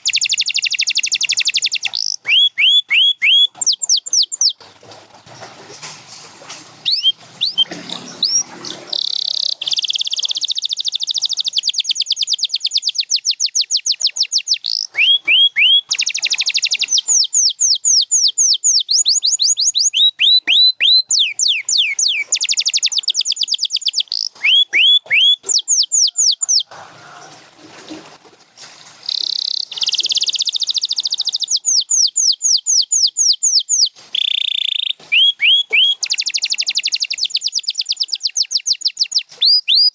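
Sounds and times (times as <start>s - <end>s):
canary singing: 0.0s - 4.7s, 6.8s - 27.2s, 29.1s - 39.9s.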